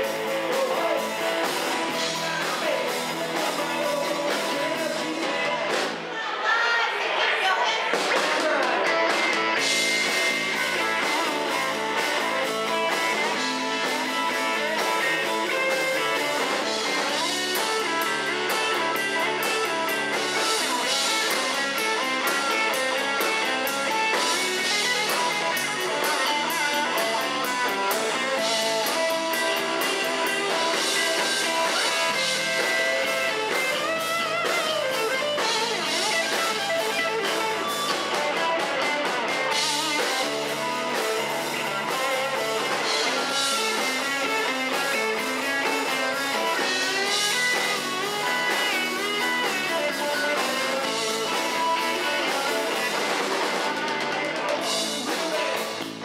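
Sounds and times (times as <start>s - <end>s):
electric bass: 0.0s - 6.1s, 8.5s - 56.0s
drum kit: 0.0s - 6.2s, 7.0s - 56.0s
electric guitar: 0.0s - 6.4s, 7.8s - 56.0s.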